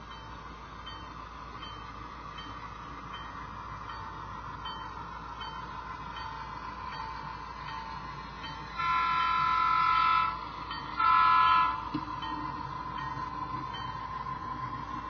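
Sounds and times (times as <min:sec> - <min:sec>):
model locomotive engine drone: 0:00.0 - 0:15.0
locomotive bell ringing: 0:00.1 - 0:14.3.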